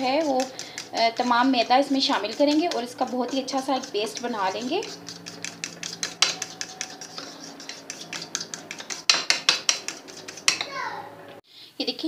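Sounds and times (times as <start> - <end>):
utensil scraping a bowl: 0.0 - 10.9.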